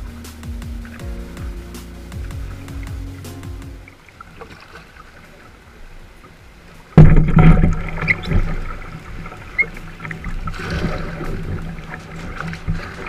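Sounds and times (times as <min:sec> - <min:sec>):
water rushing and splashing: 0:00.0 - 0:13.0.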